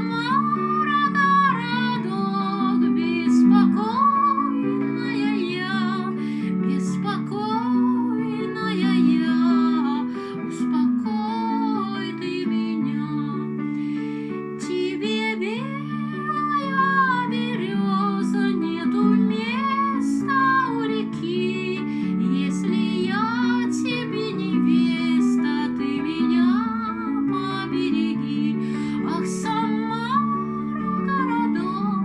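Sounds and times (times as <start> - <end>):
woman singing: 0.0 - 13.9, 14.5 - 32.0.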